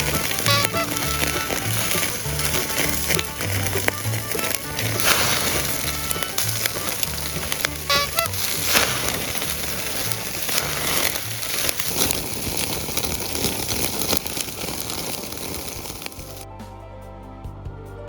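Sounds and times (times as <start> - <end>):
crackling hiss: 0.0 - 16.5.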